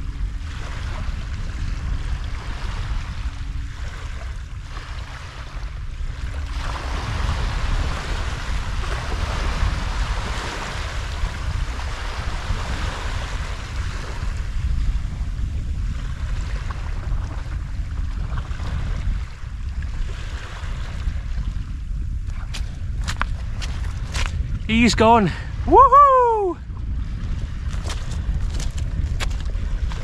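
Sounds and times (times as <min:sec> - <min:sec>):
water splashing and sloshing: 0:00.0 - 0:24.7, 0:26.7 - 0:30.0
wind rumbling on microphone: 0:00.0 - 0:30.0.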